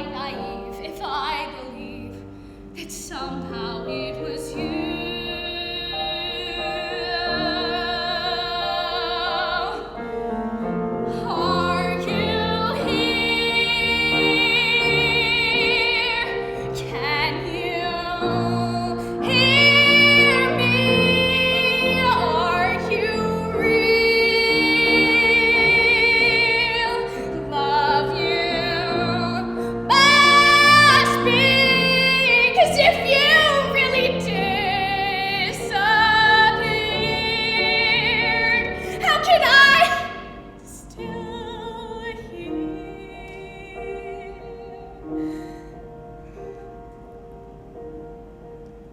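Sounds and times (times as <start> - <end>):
woman singing a ballad: 0.0 - 10.1, 11.1 - 45.8
piano accompaniment: 0.0 - 48.9.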